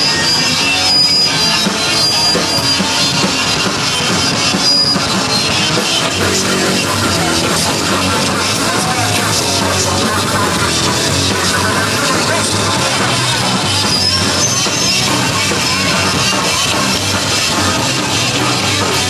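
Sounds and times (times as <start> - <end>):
drum kit: 0.0 - 19.0
punk rock band playing live: 0.0 - 19.0.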